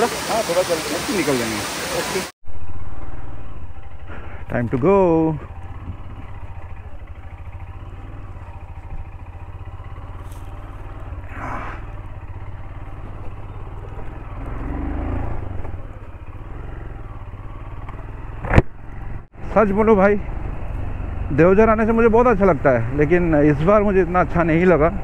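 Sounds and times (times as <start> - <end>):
motorcycle engine rumble: 1.6 - 25.0.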